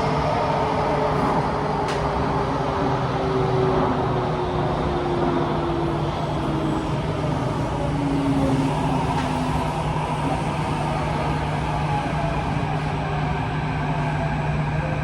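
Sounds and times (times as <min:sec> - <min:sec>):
metro train rumble and hum: 0:00.0 - 0:15.0.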